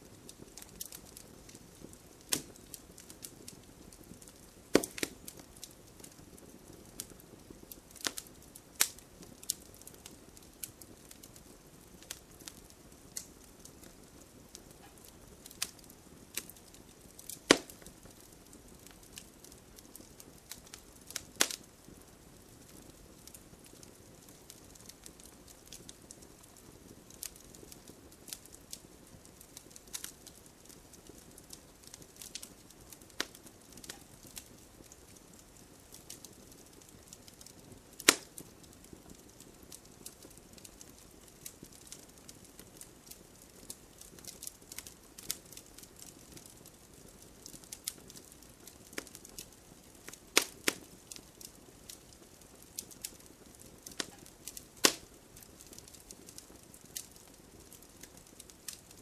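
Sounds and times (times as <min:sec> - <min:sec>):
soft low hiss: 0:00.0 - 0:59.0
wood fire crackling: 0:00.0 - 0:59.0.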